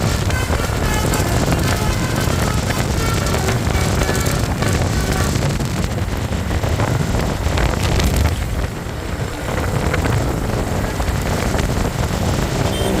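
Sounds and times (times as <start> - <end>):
heavy vehicle rumble: 0.0 - 13.0
wind buffeting microphone: 0.0 - 13.0.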